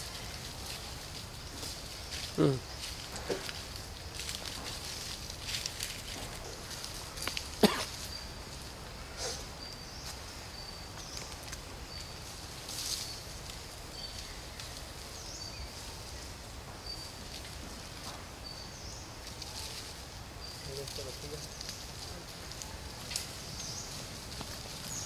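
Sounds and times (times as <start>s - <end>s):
faint rustling of leaves: 0.0s - 25.0s.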